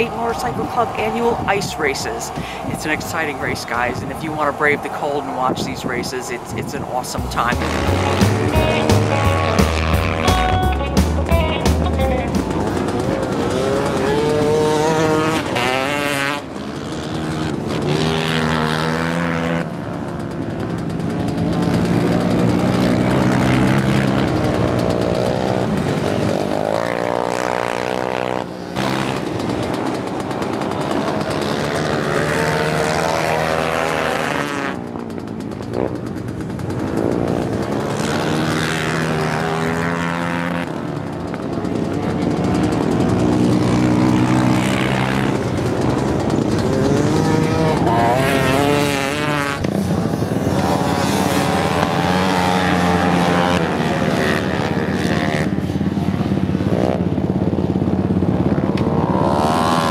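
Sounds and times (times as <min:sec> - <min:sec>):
racing engines revving hard: 0:00.0 - 0:10.5, 0:11.6 - 0:59.9.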